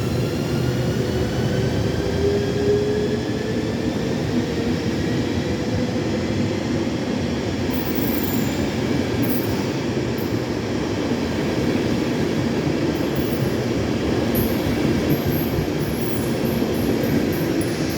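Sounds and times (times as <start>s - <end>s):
train rolling noise: 0.0s - 17.9s.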